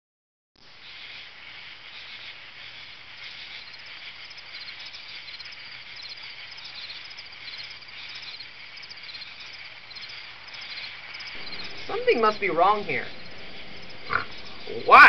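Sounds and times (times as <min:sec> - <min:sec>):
crickets chirping: 0:00.6 - 0:15.0.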